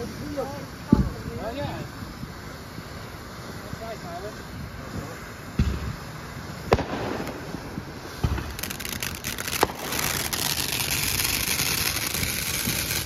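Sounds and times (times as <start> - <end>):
firework bangs: 0.0 - 13.0
firework crackling: 0.0 - 13.0
firework hissing: 0.0 - 13.0.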